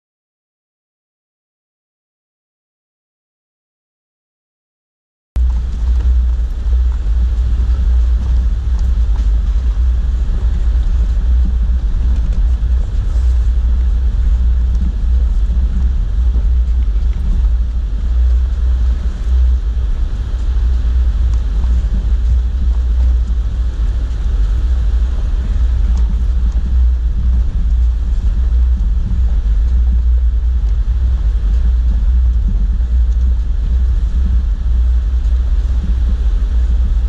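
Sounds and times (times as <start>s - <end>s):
faint gravel ticks: 5.4s - 19.6s, 20.4s - 37.0s
low rumble of engine and tyres: 5.4s - 37.0s.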